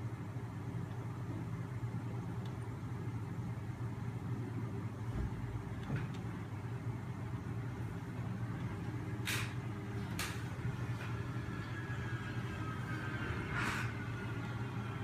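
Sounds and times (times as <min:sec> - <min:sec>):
machine low hum: 0:00.0 - 0:15.0.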